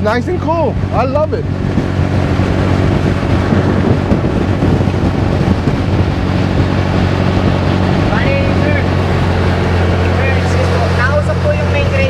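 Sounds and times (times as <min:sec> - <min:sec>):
boat engine droning: 0:00.0 - 0:12.0
wind noise: 0:00.0 - 0:12.0.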